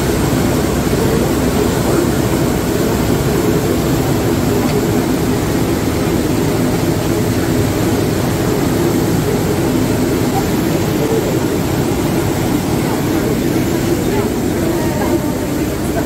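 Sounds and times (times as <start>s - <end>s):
boat engine running: 0.0s - 16.0s
propeller wake rushing: 0.0s - 16.0s.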